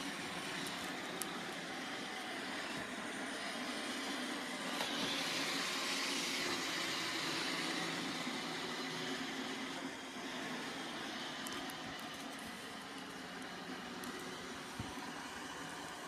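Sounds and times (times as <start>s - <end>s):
robot vacuum whirring: 0.0s - 16.0s.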